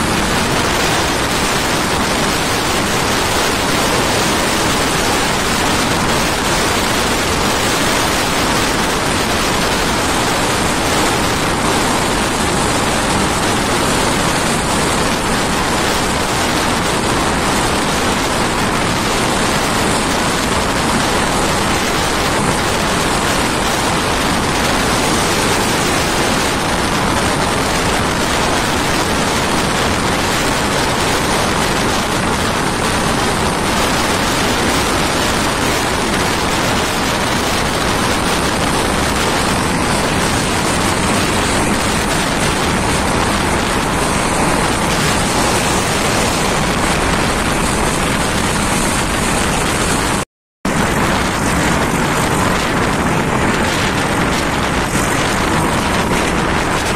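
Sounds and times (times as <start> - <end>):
wind rushing from moving train: 0.0 - 56.9.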